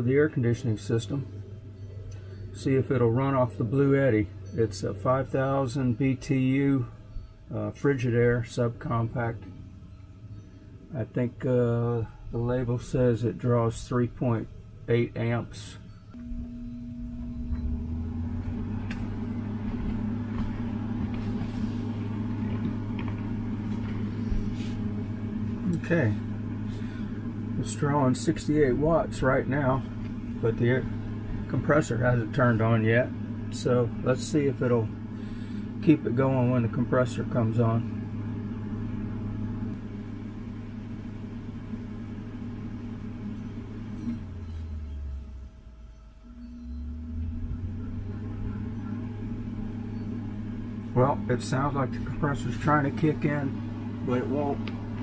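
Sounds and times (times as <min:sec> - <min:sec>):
air conditioner fan humming: 0:00.0 - 0:55.0.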